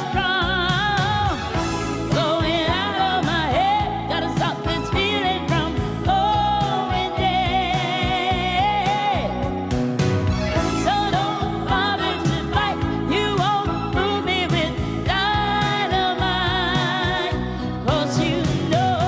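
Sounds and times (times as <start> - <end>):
woman singing with vibrato: 0.0 - 9.8, 10.5 - 19.0
live band playing: 0.0 - 19.0.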